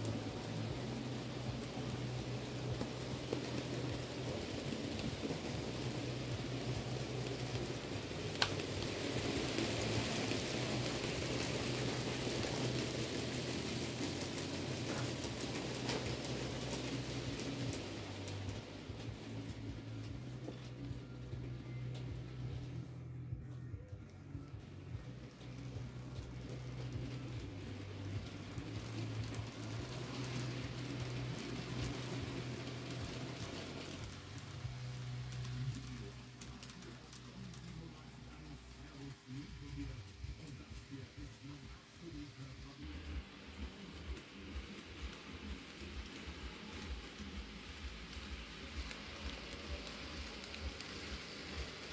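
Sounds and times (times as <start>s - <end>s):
model train low hum: 0.0s - 51.9s
small wheels pattering on rails: 0.0s - 51.9s.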